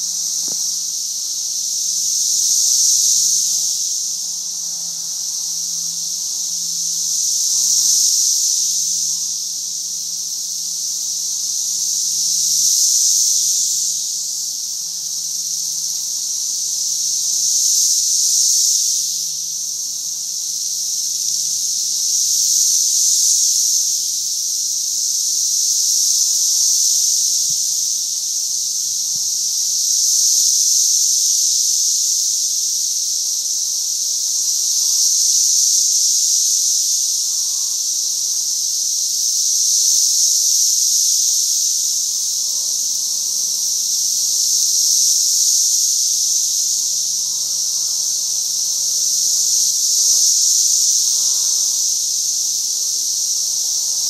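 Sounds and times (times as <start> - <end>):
cicadas buzzing: 0.0 - 54.0.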